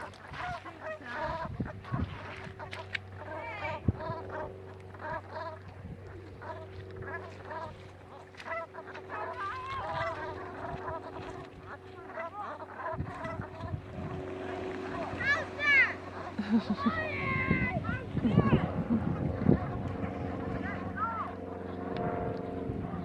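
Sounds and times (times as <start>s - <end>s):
birds calling repeatedly: 0.0s - 23.0s
steady low hum: 0.0s - 23.0s.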